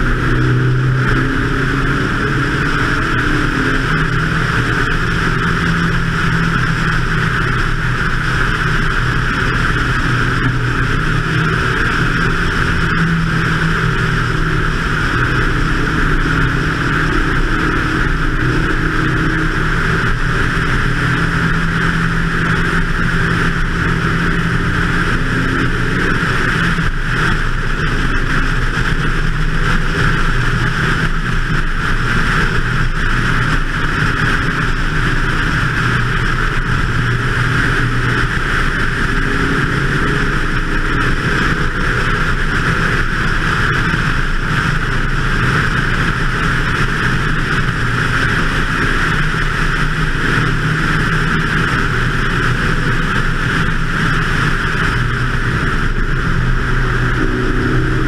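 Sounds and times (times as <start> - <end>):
race car engine running hard: 0.0 - 58.0
wind and road noise: 0.0 - 58.0.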